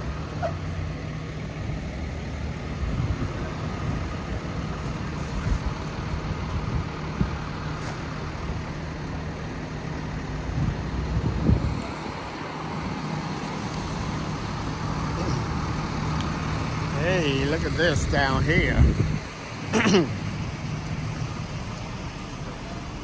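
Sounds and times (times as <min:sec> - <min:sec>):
cars passing: 0:00.0 - 0:23.0
truck engine idling: 0:00.0 - 0:23.0.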